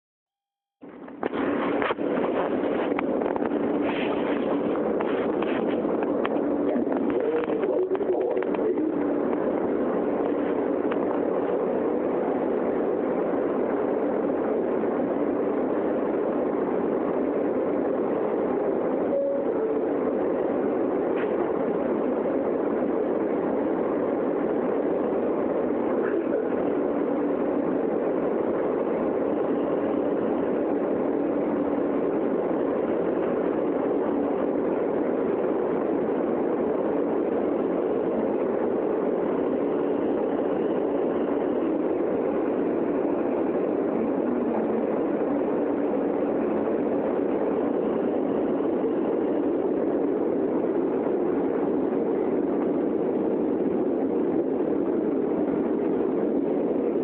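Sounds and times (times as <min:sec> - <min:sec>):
faint steady hum: 0:00.8 - 0:57.0
subway car rumbling in tunnel: 0:00.8 - 0:57.0.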